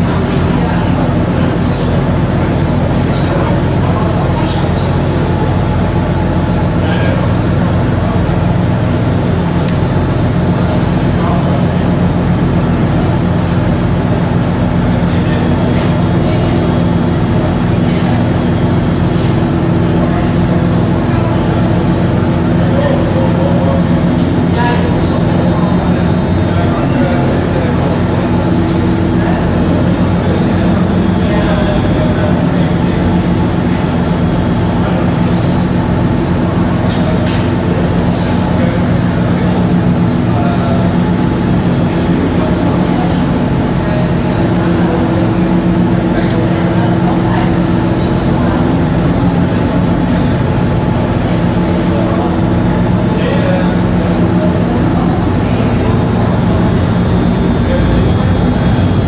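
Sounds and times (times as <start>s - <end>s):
ferry engine drone: 0.0s - 59.0s.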